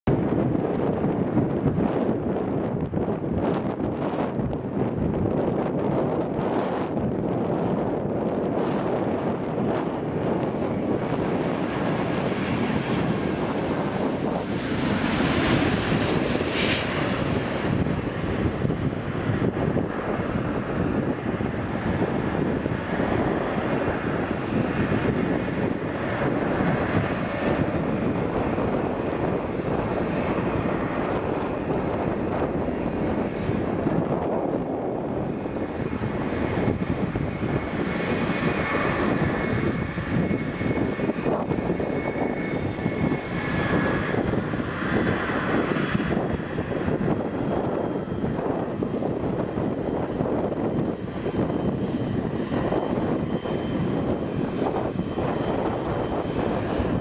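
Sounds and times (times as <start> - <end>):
jet engines running: 0.1 - 57.0.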